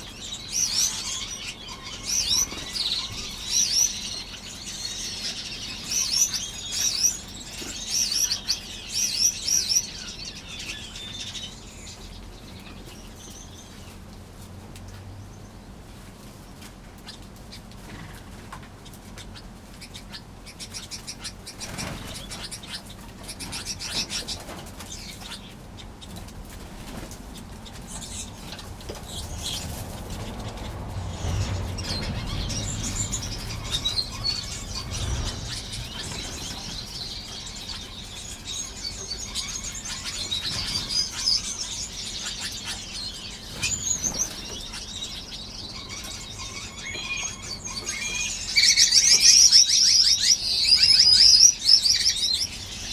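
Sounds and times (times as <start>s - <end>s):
finches chirping and calling: 0.0s - 14.0s, 19.2s - 26.2s, 26.9s - 52.9s.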